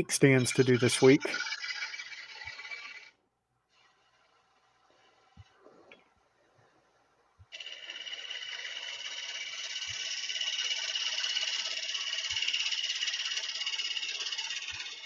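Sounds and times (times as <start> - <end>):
lathe gouge shaving wood: 0.0 - 5.4, 7.5 - 15.0.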